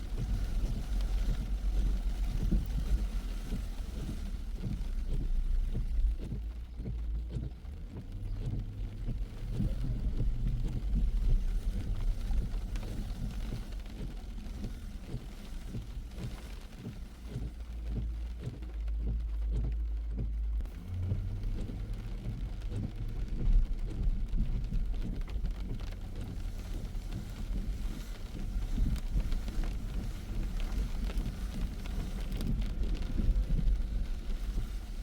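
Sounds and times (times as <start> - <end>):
car road and engine rumble: 0.0 - 35.0
rain ticking on car: 0.0 - 35.0.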